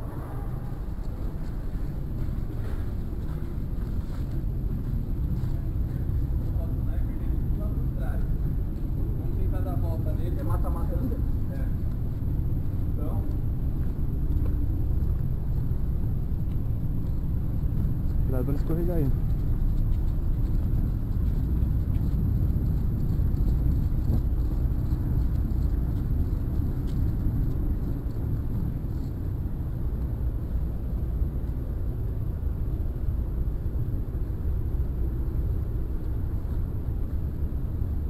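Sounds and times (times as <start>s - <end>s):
wind rumble on microphone: 0.0s - 38.0s
walking clicks and rustles: 0.1s - 38.0s.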